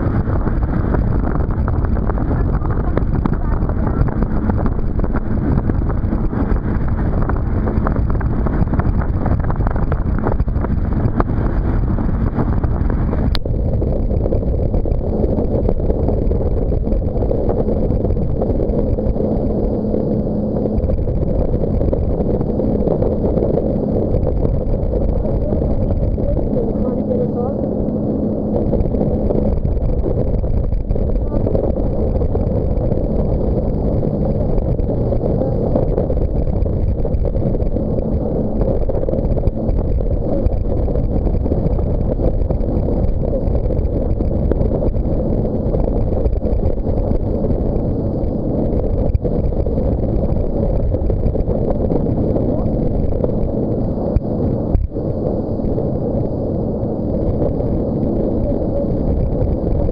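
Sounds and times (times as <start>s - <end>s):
faint engine tone: 0.0s - 59.9s
water noise: 0.0s - 59.9s
wind buffeting microphone: 0.0s - 59.9s.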